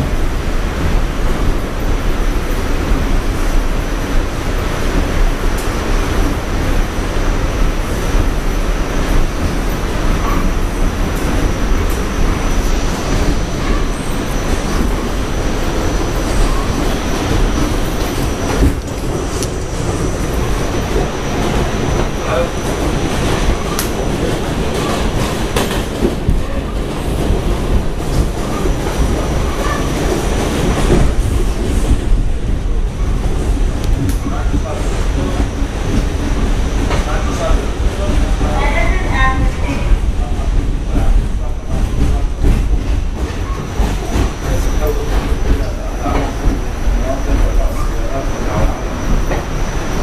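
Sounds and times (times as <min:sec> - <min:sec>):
subway wheels rumbling on rail: 0:00.0 - 0:50.0.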